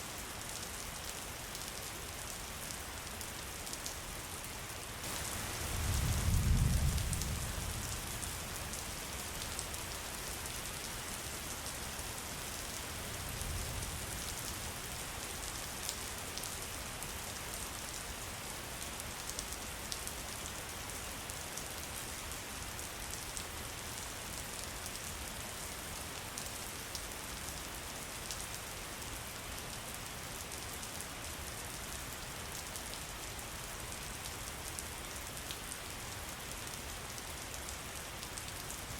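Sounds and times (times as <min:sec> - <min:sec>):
rain falling: 0:00.1 - 0:38.9.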